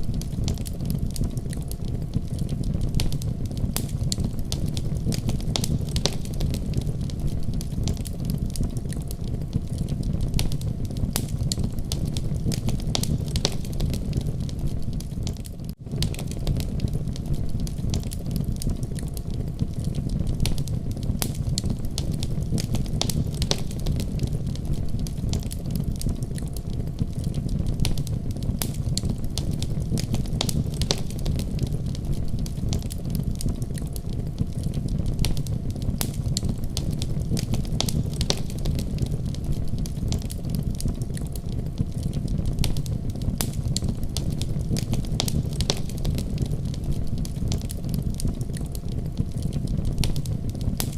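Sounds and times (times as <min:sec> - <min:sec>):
fire crackling: 0:00.0 - 0:50.9
low rumble of flames: 0:00.0 - 0:50.9.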